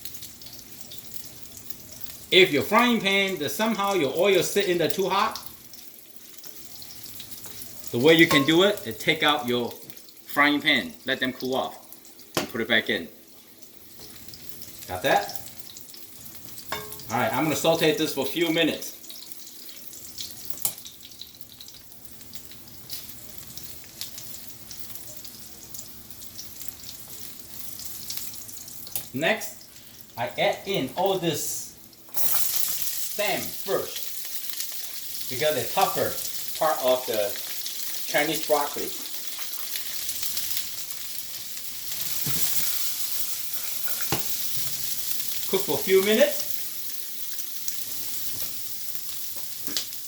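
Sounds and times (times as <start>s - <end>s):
garlic sizzling in hot oil: 0.0s - 50.0s
oil popping and crackling: 0.0s - 50.0s.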